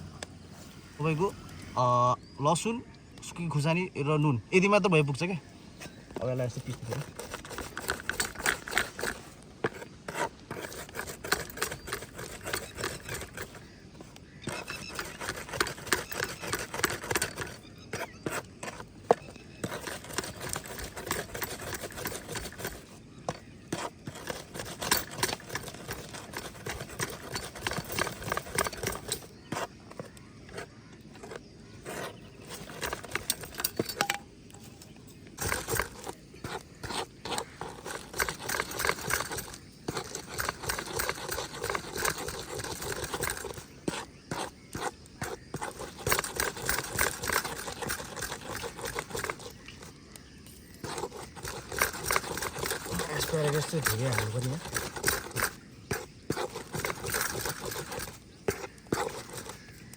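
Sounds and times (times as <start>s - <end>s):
hand grinding knocks and scrapes: 5.1s - 59.9s.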